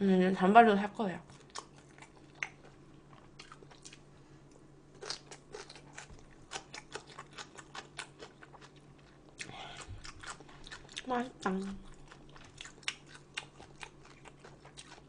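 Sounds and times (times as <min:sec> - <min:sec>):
person chewing crunchy food: 0:01.3 - 0:04.1, 0:04.9 - 0:15.0.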